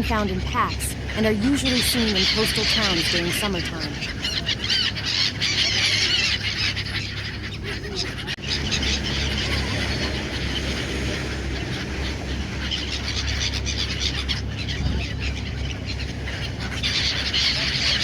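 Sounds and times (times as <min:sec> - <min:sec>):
seagulls calling: 0:00.0 - 0:18.0.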